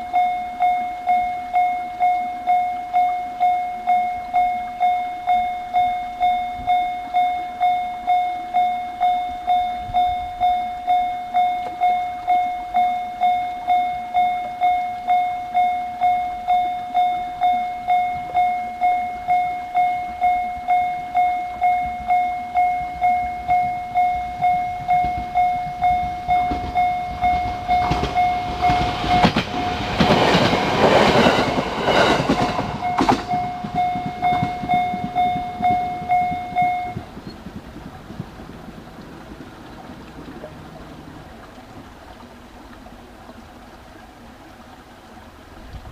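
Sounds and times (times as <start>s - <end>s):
level crossing alarm ringing: 0.0s - 37.4s
train passing: 0.0s - 45.9s.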